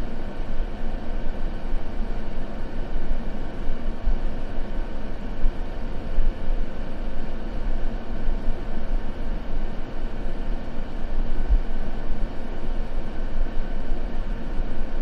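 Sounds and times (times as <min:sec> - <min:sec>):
deep white noise: 0:00.0 - 0:15.0.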